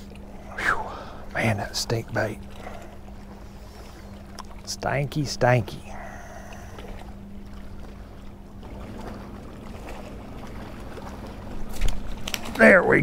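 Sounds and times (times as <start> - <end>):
steady low hum: 0.0 - 13.0
wind and water noise: 0.0 - 13.0.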